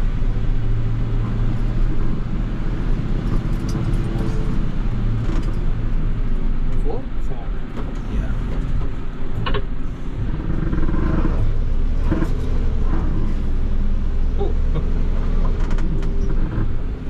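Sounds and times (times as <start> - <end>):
diesel engine braking: 0.0 - 17.0.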